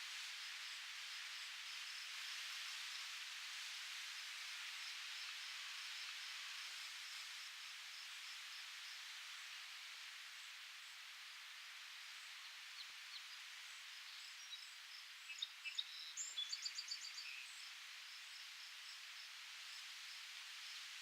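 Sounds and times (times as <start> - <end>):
wind through leaves: 0.0 - 21.0.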